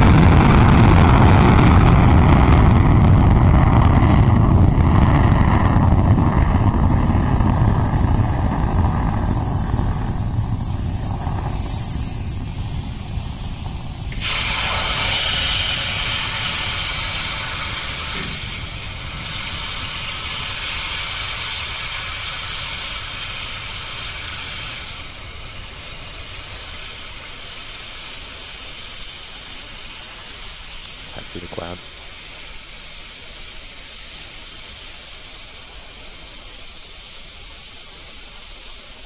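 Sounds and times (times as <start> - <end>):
rocket engine rumble: 0.0 - 39.0
rocket engine rushing hiss: 0.0 - 39.0.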